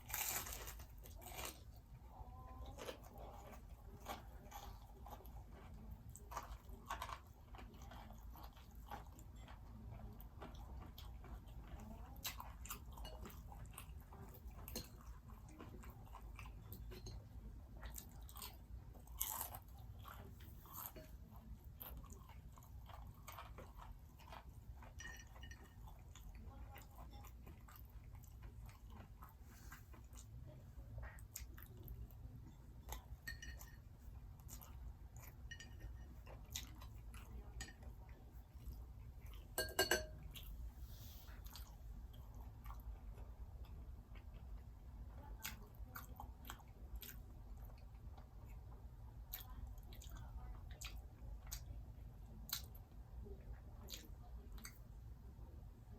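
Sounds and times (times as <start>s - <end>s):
crunchy food chewing: 0.0s - 53.0s
low steady hum: 0.0s - 55.9s.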